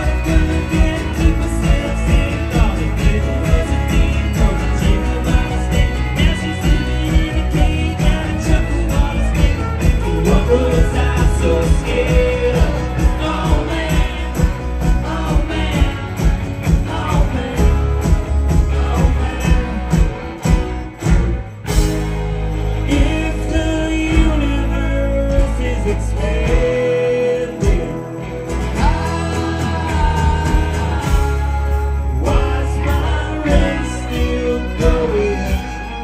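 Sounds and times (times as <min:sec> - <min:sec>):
men singing: 0:00.0 - 0:20.6, 0:22.8 - 0:36.0
rock band playing: 0:00.0 - 0:36.0.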